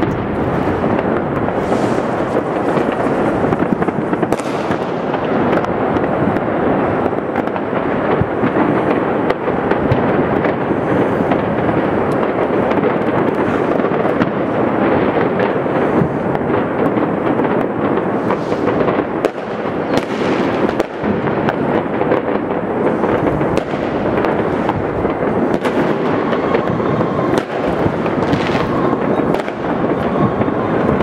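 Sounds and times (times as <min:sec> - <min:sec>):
fireworks and firecrackers banging: 0:00.0 - 0:31.0.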